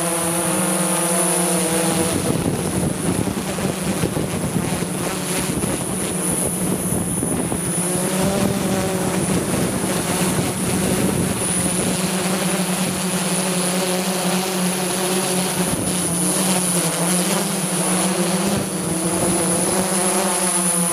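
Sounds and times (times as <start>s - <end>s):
drone motors humming: 0.0s - 20.9s.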